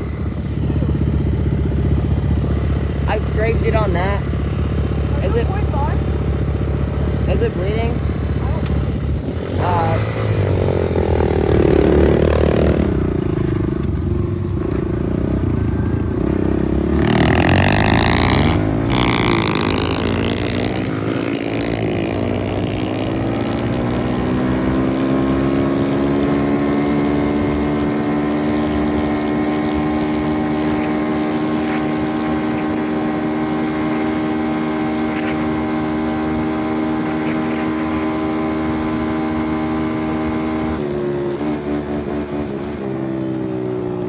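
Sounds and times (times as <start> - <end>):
pit bike engine revving: 0.0 - 44.0.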